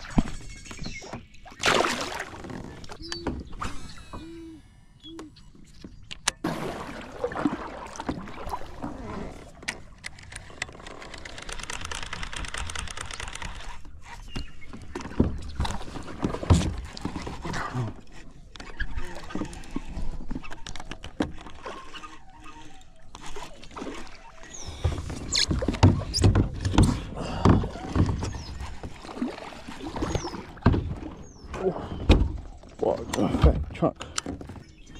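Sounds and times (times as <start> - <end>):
paddle splashing water: 0.0 - 3.3, 6.4 - 34.9.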